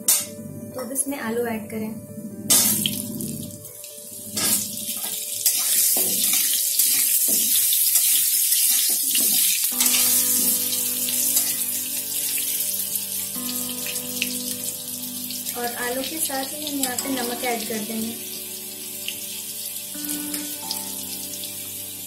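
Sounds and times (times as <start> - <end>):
potatoes sizzling in oil: 3.9 - 22.0.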